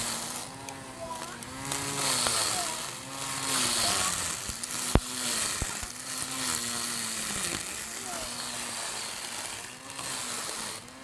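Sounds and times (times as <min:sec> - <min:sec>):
electric string trimmer whine: 0:00.0 - 0:11.0
trimmer line clicking on stone: 0:00.0 - 0:11.0.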